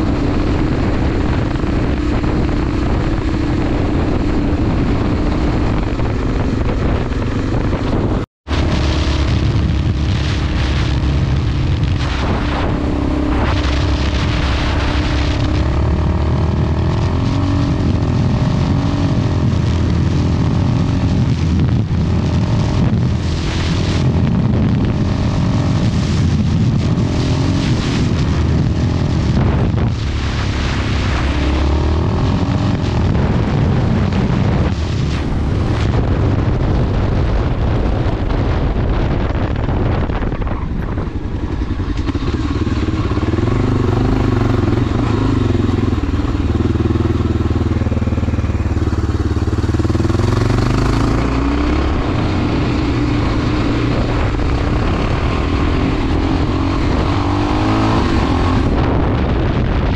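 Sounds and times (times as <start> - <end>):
motorcycle engine revving: 0.0 - 59.9
wind buffeting microphone: 0.0 - 59.9.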